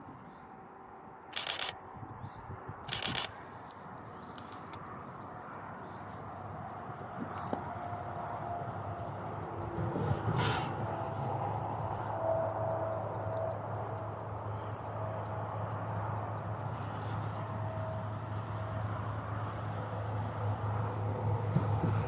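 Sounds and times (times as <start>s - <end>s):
distant diesel locomotive hum: 0.0s - 22.0s
high even ticking: 0.8s - 10.0s, 10.8s - 19.9s.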